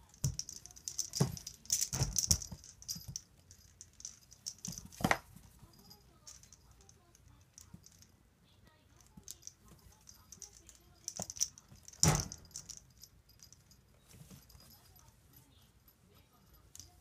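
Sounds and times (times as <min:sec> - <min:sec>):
wire lid rattling: 0:00.0 - 0:08.1, 0:09.1 - 0:14.7.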